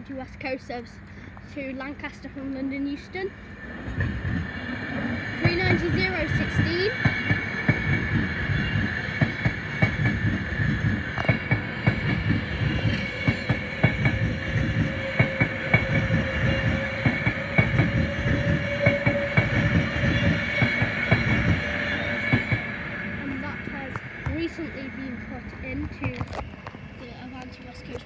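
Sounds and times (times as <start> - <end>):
train wheels rumbling and clacking: 0.0 - 28.0.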